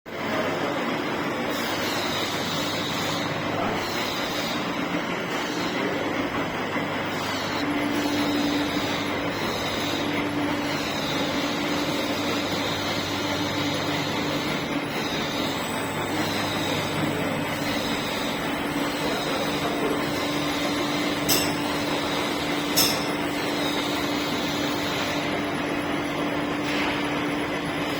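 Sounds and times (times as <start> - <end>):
lathe humming with low whine: 0.2 - 27.9.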